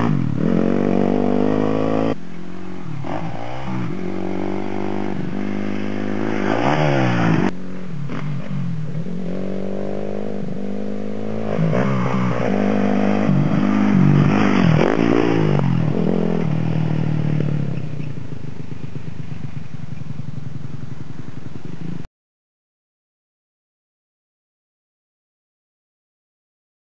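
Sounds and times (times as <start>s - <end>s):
dirt bike engine revving: 0.0s - 22.1s.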